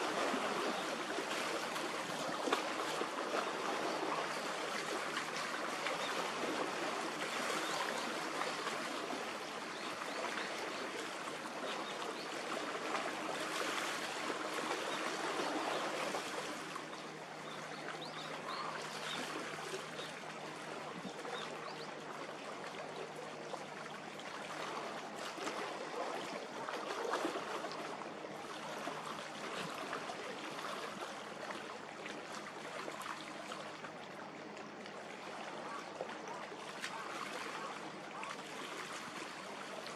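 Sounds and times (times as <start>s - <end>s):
water lapping and splashing: 0.0s - 39.9s.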